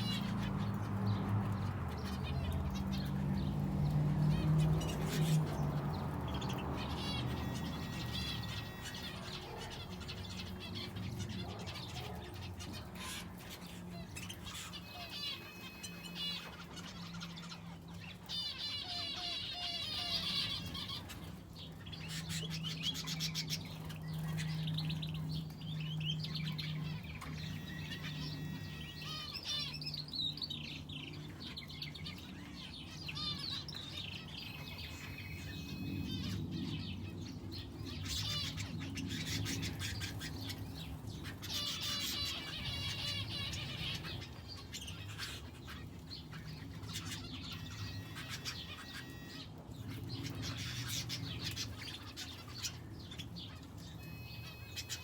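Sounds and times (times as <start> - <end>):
finches and canary chirping: 0.0 - 55.0
rapid bird trill: 6.4 - 12.2, 12.9 - 37.0, 37.8 - 55.0.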